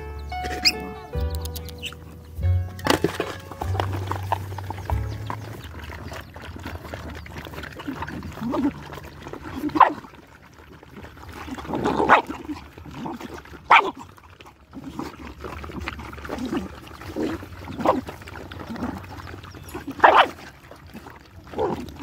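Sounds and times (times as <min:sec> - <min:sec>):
puppies yelping: 0:00.0 - 0:02.3, 0:03.7 - 0:22.0
puppies eating from a dish: 0:00.0 - 0:22.0.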